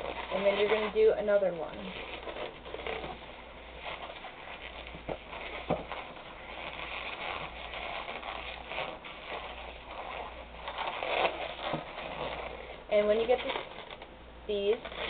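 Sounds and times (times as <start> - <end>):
balloon squeaking and rubbing: 0.0 - 15.0.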